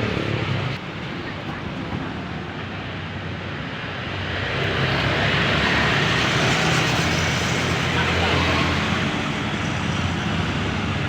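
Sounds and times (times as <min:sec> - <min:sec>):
rush of noise: 0:00.0 - 0:11.0.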